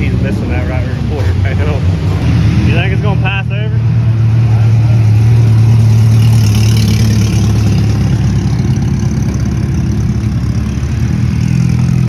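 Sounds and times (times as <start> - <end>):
race car engine idling: 0.0 - 12.0.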